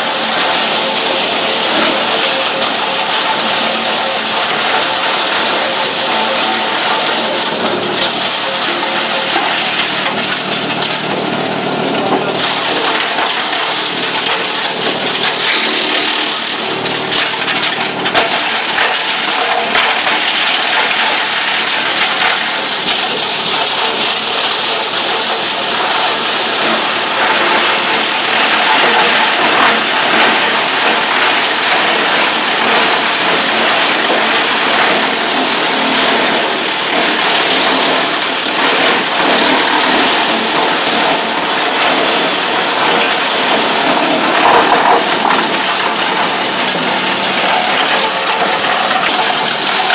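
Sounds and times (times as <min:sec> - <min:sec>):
wood chips crackling and rattling: 0:00.0 - 0:49.9
motor and conveyors humming: 0:00.1 - 0:49.9.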